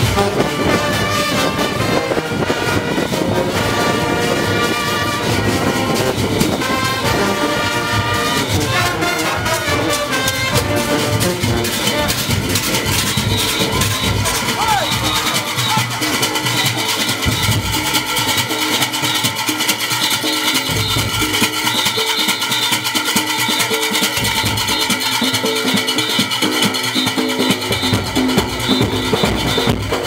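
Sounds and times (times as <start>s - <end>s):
barrel drums: 0.0s - 30.0s
brass horns playing: 0.0s - 30.0s.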